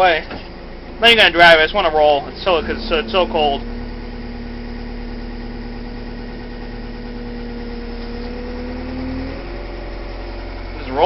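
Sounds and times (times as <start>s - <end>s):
diesel engine idling: 0.0s - 11.0s
steady whine: 0.0s - 11.0s.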